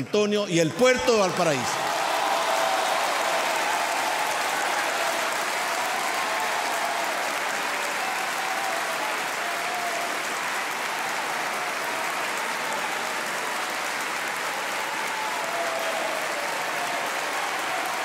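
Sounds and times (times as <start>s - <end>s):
large audience applauding: 0.8s - 18.0s.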